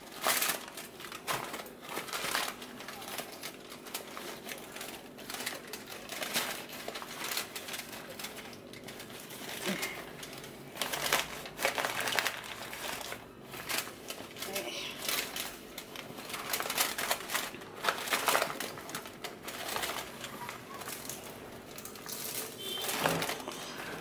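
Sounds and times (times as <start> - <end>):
aluminium foil crinkling: 0.0 - 24.0
cloth and paper rustling: 0.0 - 24.0.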